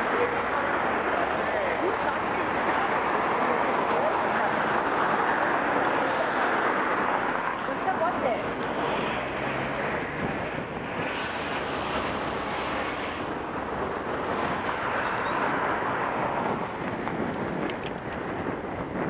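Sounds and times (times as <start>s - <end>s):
passing car traffic: 0.0s - 19.0s
wind rushing over microphone: 0.0s - 19.0s.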